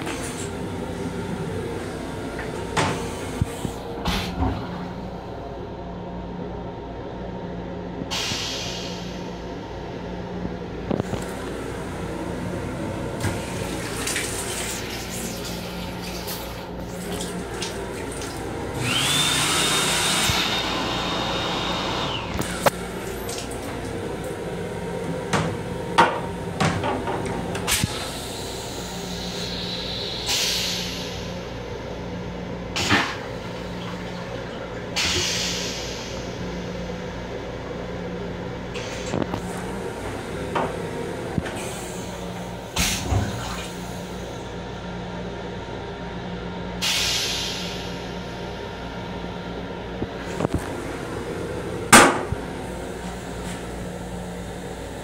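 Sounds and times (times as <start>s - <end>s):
steady train hum: 0.0s - 19.2s, 20.1s - 55.0s.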